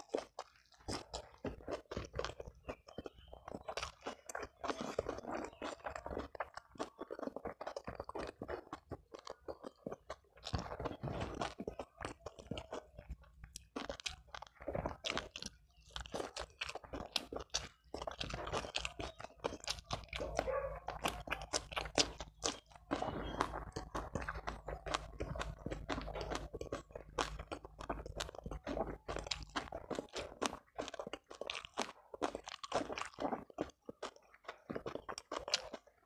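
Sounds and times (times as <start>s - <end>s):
person chewing crunchy food: 0.0s - 36.0s.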